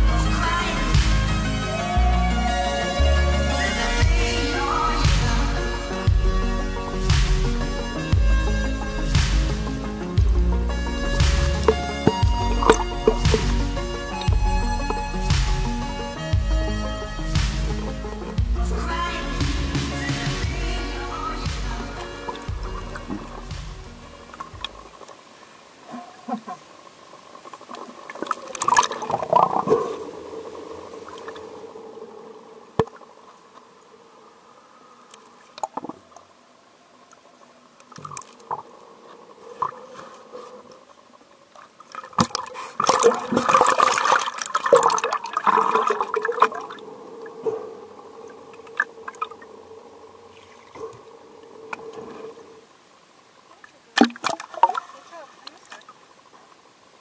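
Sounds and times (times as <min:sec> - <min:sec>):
faint steady hum: 0:00.0 - 0:57.0
water splashing and gurgling: 0:00.0 - 0:57.0.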